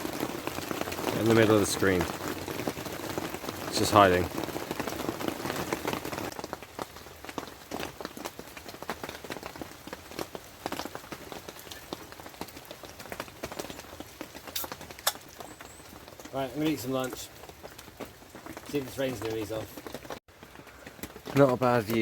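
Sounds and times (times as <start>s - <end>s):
raindrops striking close by: 0.0s - 22.0s
steady rain: 0.0s - 22.0s.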